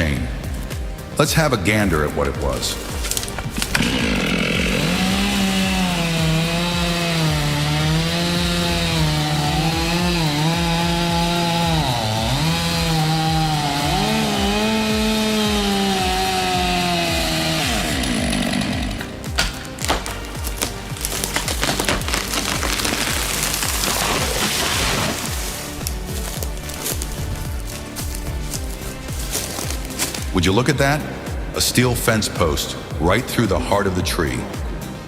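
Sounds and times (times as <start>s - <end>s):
chainsaw cutting wood: 2.2s - 31.4s.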